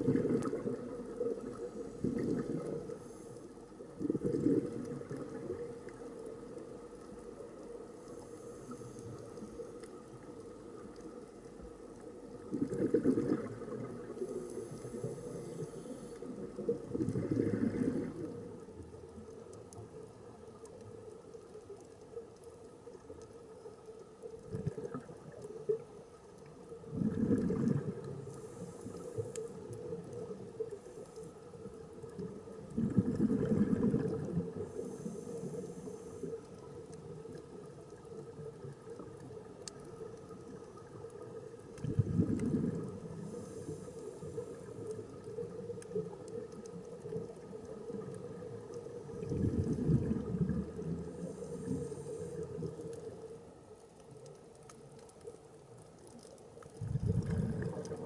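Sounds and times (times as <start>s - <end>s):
exhaled bubbles gurgling: 0.0s - 21.1s, 24.3s - 53.4s, 56.0s - 58.0s.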